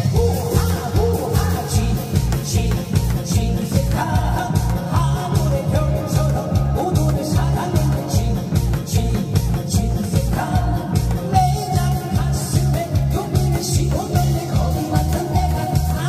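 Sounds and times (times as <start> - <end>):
upbeat music with heavy beat: 0.0 - 16.0.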